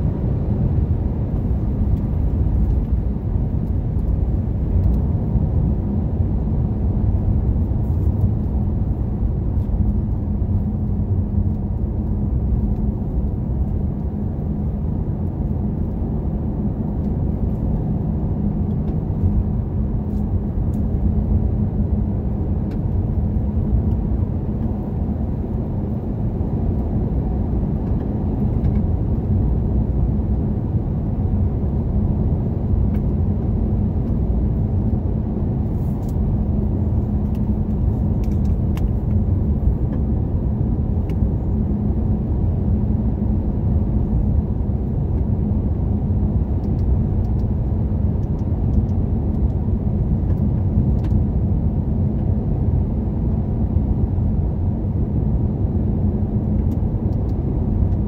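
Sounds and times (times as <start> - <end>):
car driving on paved road: 0.0 - 58.0.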